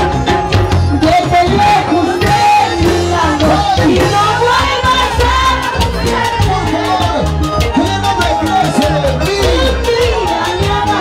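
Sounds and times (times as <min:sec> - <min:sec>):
live band playing dance music: 0:00.0 - 0:11.0.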